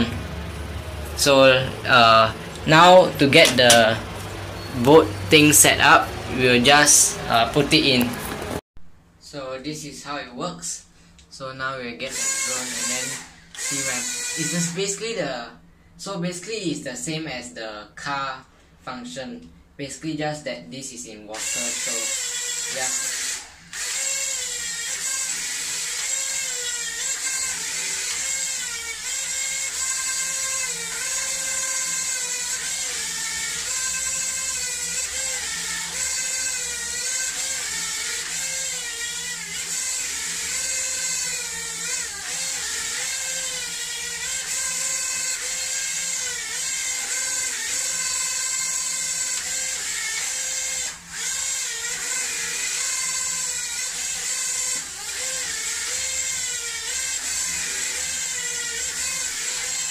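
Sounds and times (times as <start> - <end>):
small propeller motors whining: 0.0 - 8.6, 12.1 - 15.1, 21.4 - 59.9.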